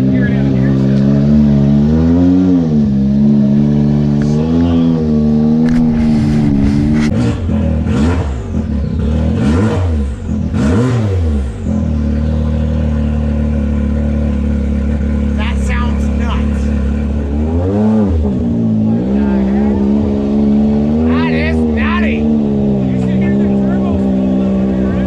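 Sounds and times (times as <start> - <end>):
engine idling and revving: 0.0 - 25.0.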